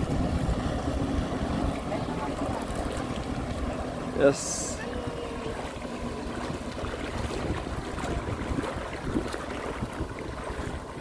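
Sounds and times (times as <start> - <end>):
wind buffeting microphone: 0.0 - 4.1, 4.9 - 11.0
choppy water: 0.0 - 11.0
distant jet ski engine: 0.0 - 11.0.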